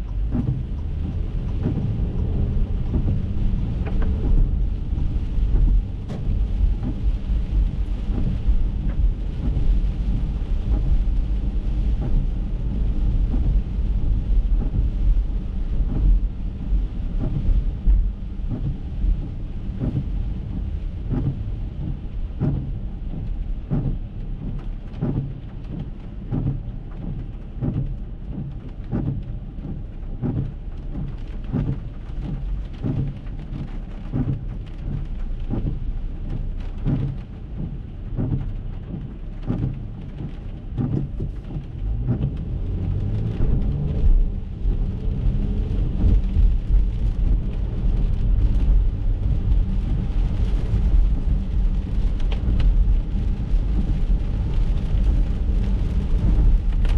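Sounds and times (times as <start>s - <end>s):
rain: 0.0s - 56.9s
tyres on wet road: 0.0s - 56.9s.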